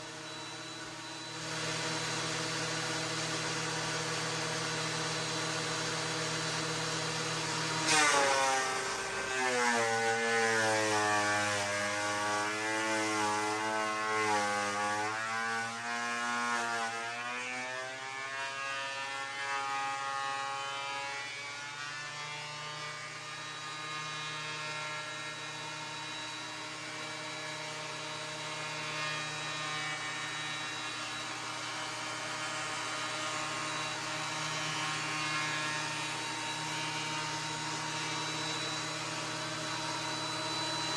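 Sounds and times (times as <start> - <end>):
thickness planer running: 0.0 - 17.2, 19.1 - 40.9.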